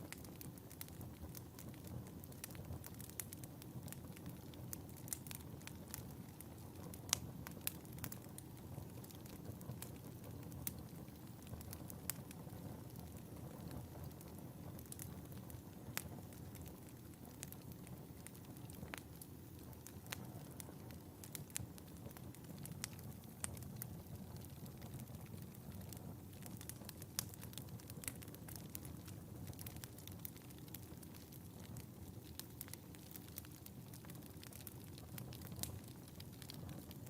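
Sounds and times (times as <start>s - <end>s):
fire burning: 0.0s - 37.0s
fire crackling and popping: 0.0s - 37.0s.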